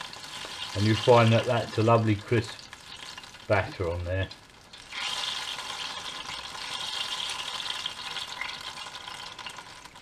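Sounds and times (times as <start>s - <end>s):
hot oil sizzling in fryer: 0.0s - 10.0s.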